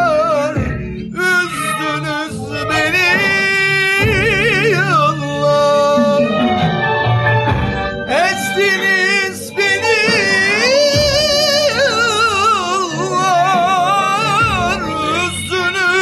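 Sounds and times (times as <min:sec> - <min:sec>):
instrumental backing: 0:00.0 - 0:16.0
person singing with vibrato: 0:00.0 - 0:16.0.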